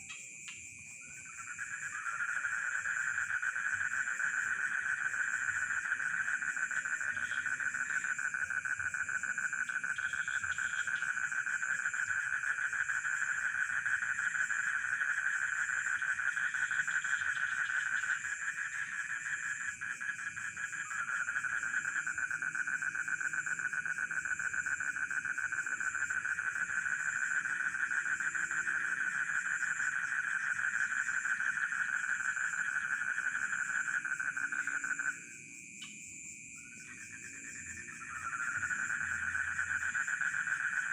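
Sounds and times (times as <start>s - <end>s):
crickets trilling: 0.0s - 40.9s
low frog calls: 1.1s - 35.2s, 36.6s - 40.9s.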